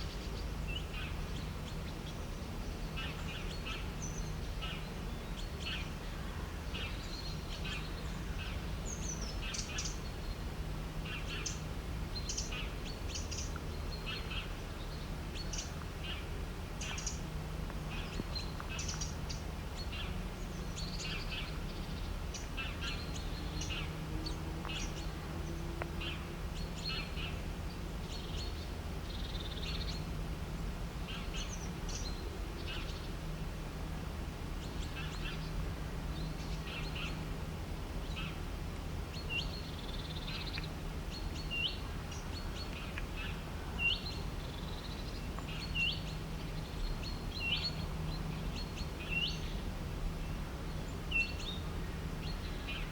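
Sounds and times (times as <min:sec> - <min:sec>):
low background hum: 0:00.0 - 0:52.9.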